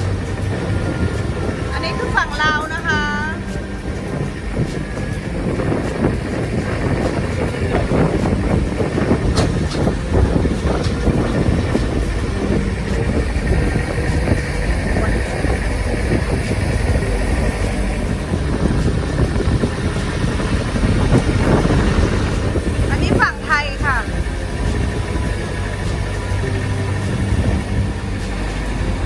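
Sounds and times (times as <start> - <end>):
boat engine droning: 0.0 - 29.0
rush of wind and water: 0.0 - 29.0.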